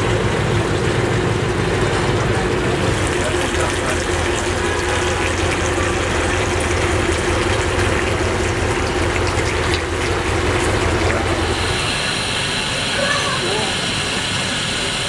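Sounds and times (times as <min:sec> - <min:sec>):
tap water running into metal pot: 0:00.0 - 0:12.2
low hum: 0:00.0 - 0:12.8.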